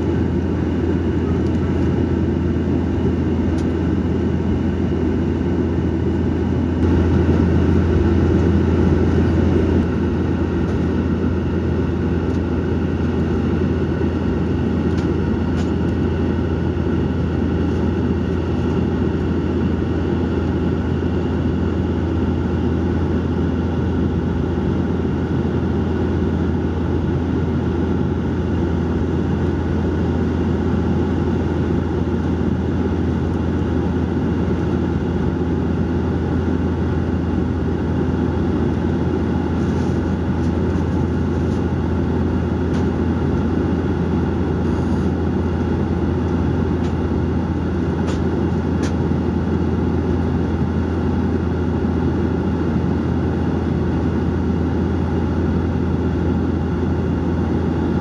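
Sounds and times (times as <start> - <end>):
engine and airflow rush: 0.0 - 58.0
propeller hum: 0.0 - 58.0.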